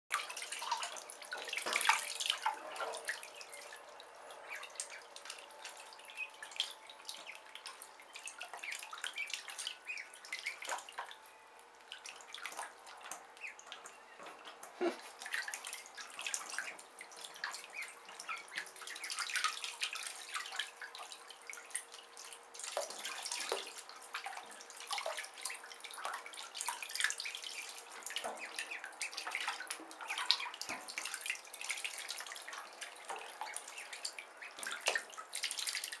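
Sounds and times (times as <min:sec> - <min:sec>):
ducklings splashing in water: 0:00.1 - 0:36.0.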